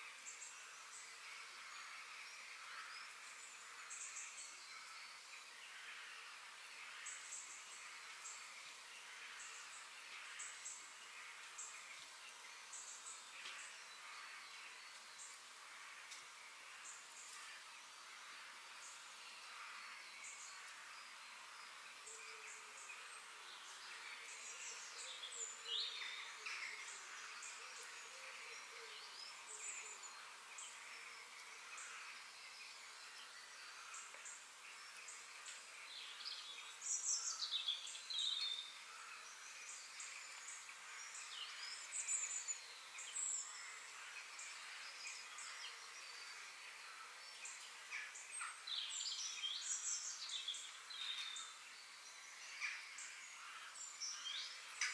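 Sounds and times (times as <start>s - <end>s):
forest birds chirping: 0.0s - 54.9s
steady background hiss: 0.0s - 54.9s.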